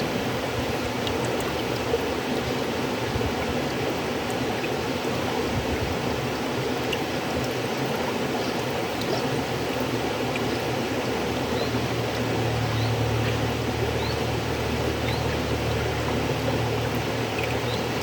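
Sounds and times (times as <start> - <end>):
river water flowing: 0.0 - 18.0
small water splashes: 0.0 - 18.0.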